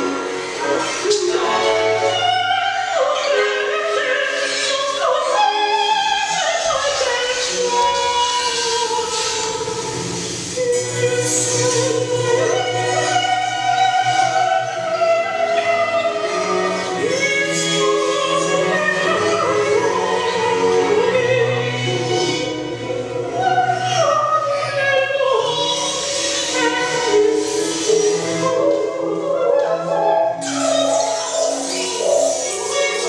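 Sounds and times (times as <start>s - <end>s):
operatic singing with vibrato: 0.0s - 33.0s.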